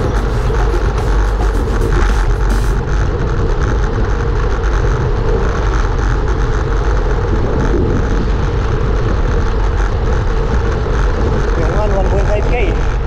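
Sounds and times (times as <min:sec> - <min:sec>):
tyre and road noise: 0:00.0 - 0:13.0
wind buffeting microphone: 0:00.0 - 0:13.0.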